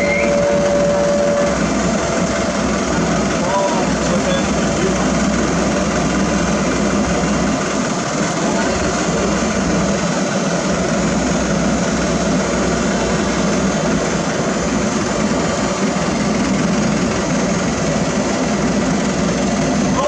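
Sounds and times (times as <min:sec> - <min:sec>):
diesel machinery engines running: 0:00.0 - 0:20.0.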